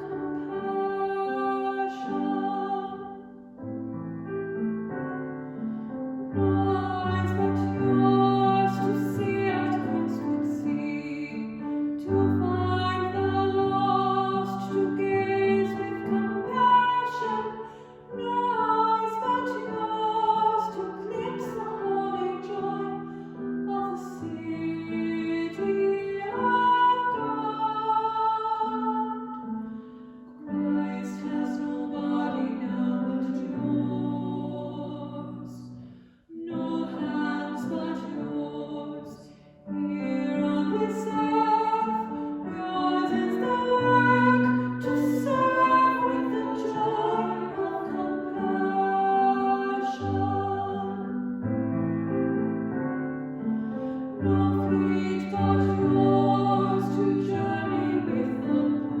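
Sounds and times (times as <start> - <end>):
slow hymn-like music: 0.0 - 59.0.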